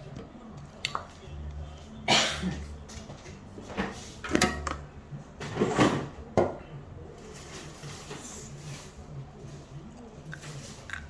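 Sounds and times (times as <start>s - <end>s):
kitchen handling noises: 2.1s - 11.0s.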